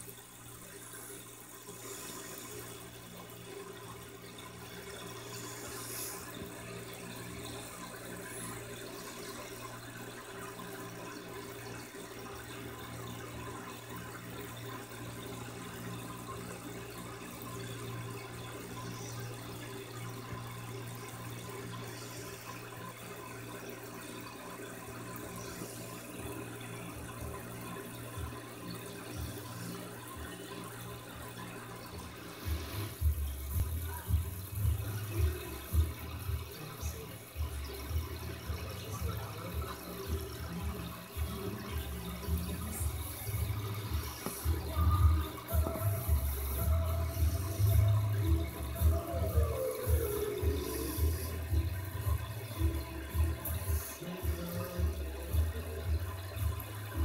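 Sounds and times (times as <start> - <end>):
aquarium filter water: 0.0 - 57.0.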